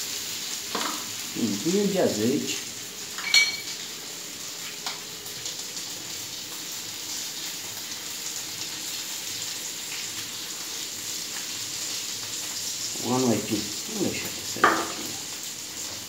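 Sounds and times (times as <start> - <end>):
cheese sizzling in oil: 0.0 - 16.0.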